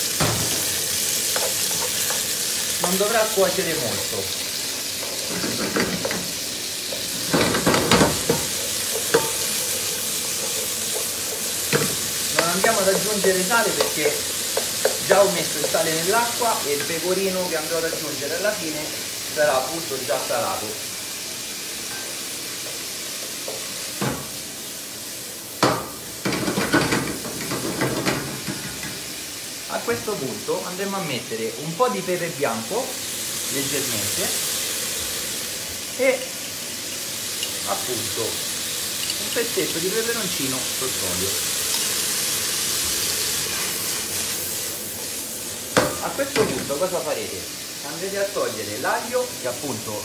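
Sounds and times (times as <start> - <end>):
meat sizzling in frying pan: 0.0 - 50.0.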